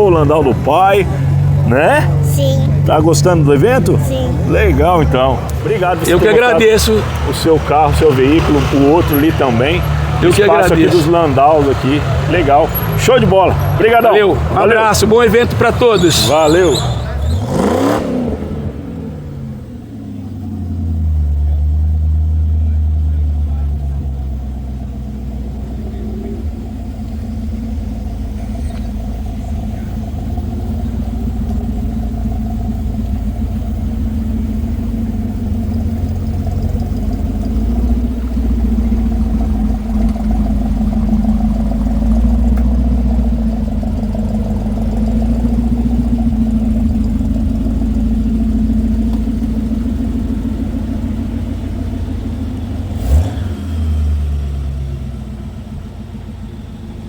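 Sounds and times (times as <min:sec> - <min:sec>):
car engine rumbling: 0:00.0 - 0:57.0.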